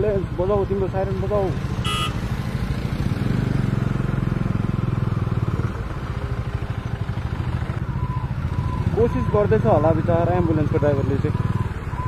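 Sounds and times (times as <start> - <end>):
motorcycle engine at low speed: 0.0 - 12.0.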